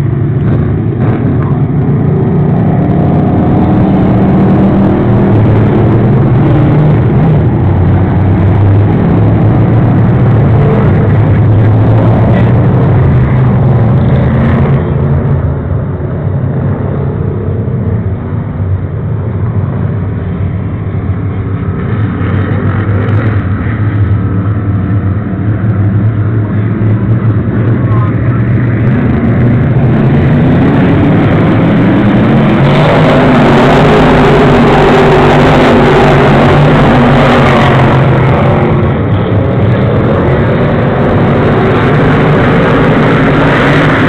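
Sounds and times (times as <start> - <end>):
race car engines droning: 0.0 - 44.0.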